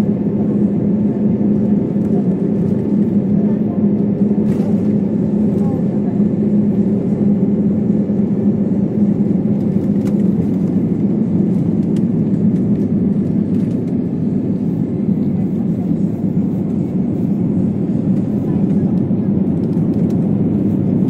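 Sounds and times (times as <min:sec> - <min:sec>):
jet engine roar in cabin: 0:00.0 - 0:21.0
runway rumble: 0:00.0 - 0:21.0.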